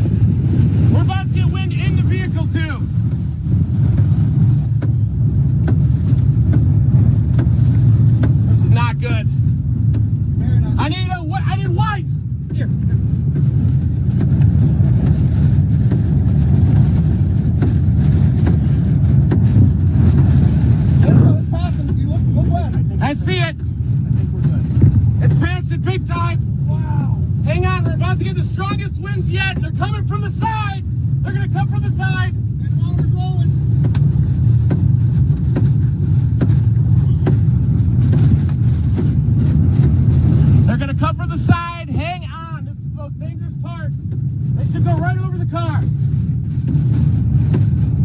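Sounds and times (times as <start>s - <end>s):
tornado wind roaring: 0.0s - 48.0s.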